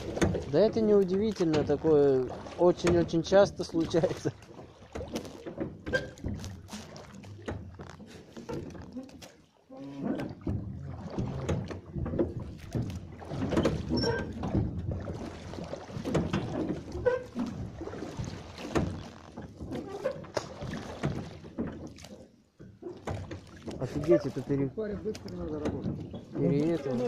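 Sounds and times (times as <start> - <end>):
hull knocks and bumps: 0.0 - 9.0, 10.0 - 24.3, 24.9 - 27.0
water splashing against boat: 0.0 - 27.0.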